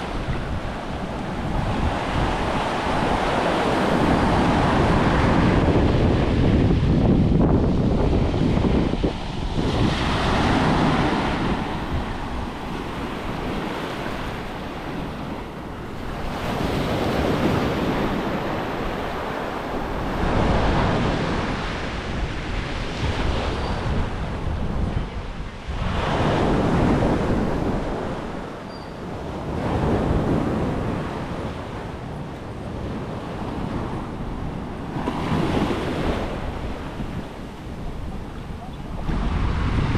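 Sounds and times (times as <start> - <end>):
small waves breaking on shore: 0.0 - 24.8, 25.5 - 39.9
wind rumbling on microphone: 0.0 - 39.9.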